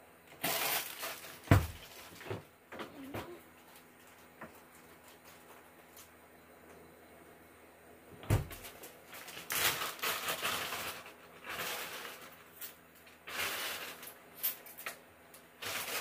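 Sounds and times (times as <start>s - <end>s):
rustling and clatter in a pan: 0.3s - 6.1s, 8.4s - 16.0s.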